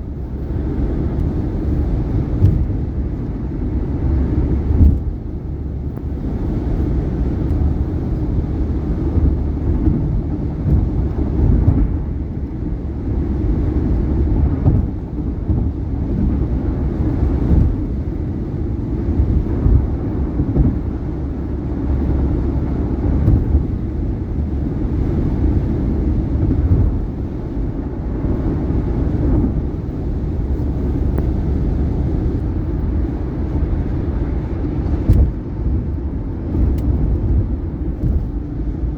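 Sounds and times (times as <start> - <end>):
tyre and road noise: 0.0 - 38.9.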